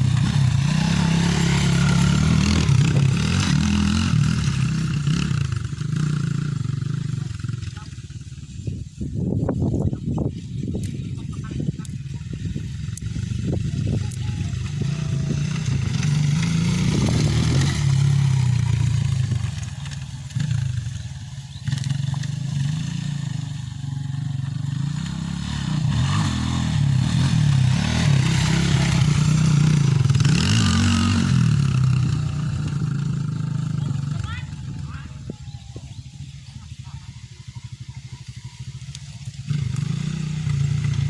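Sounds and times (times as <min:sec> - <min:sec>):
dirt bike engine revving: 0:00.0 - 0:08.5, 0:10.7 - 0:41.0.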